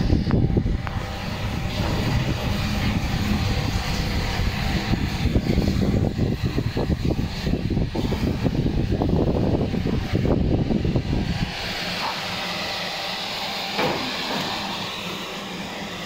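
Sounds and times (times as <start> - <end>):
dishwasher running: 0.4 - 10.9, 13.6 - 16.0.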